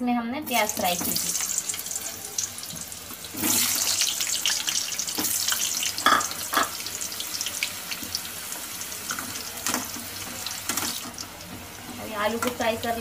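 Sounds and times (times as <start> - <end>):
potatoes sizzling in hot oil: 0.4 - 13.0.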